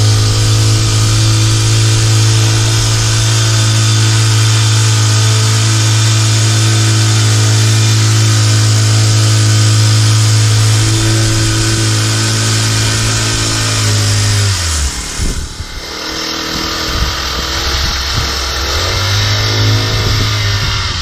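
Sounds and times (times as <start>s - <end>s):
small gasoline engine running: 0.0s - 21.0s.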